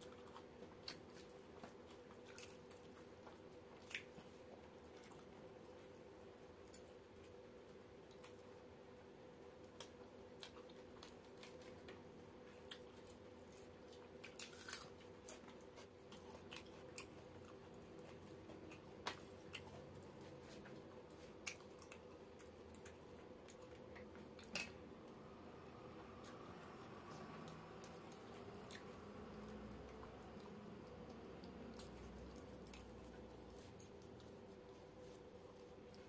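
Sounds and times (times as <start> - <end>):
faint steady hum: 0.0 - 36.0
soft chewing: 0.0 - 36.0.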